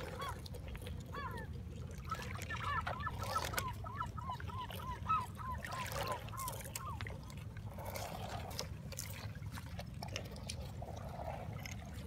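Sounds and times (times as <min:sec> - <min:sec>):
waves lapping on pebbles: 0:00.0 - 0:12.0.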